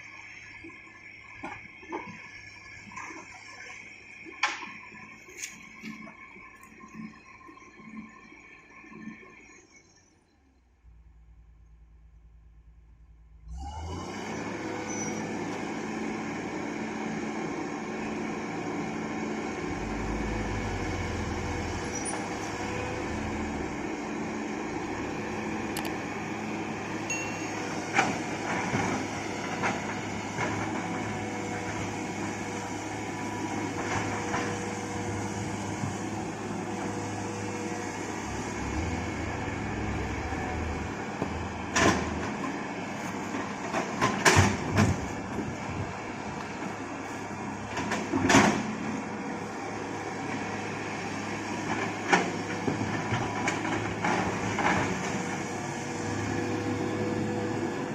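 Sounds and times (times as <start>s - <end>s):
excavator engine rumbling: 10.8s - 57.9s.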